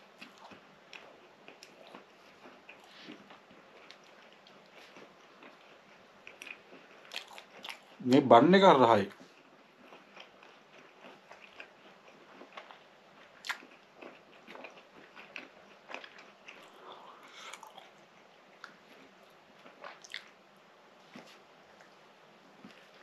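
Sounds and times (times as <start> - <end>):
chewing soft bun: 0.0 - 8.2, 9.1 - 23.0.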